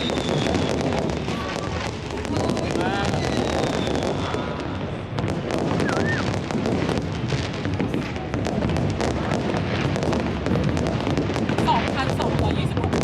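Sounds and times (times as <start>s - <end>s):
fireworks bursts rumbling: 0.0s - 13.0s
fireworks crackling: 0.0s - 13.0s.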